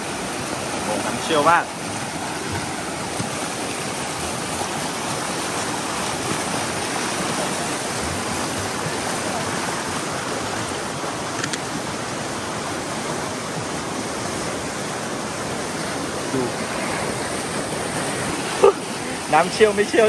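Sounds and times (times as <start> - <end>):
river rapids rushing over rocks: 0.0 - 20.0.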